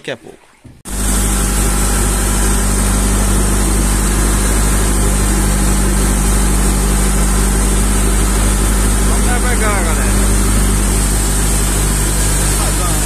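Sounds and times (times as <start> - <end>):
wind and water rushing: 0.0 - 13.0
boat engine humming: 0.5 - 13.0.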